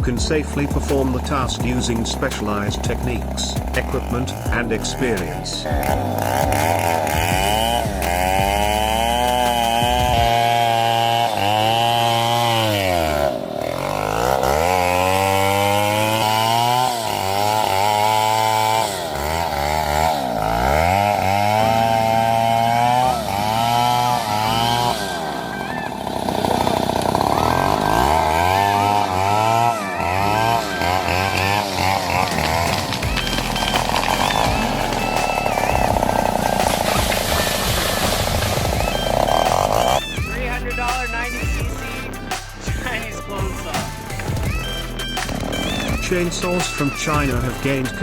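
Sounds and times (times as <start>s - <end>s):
chainsaw cutting wood: 0.0s - 48.0s.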